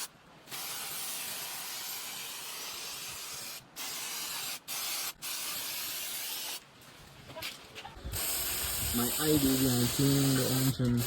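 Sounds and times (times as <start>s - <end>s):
aerosol can spraying: 0.5s - 6.6s, 8.1s - 11.0s.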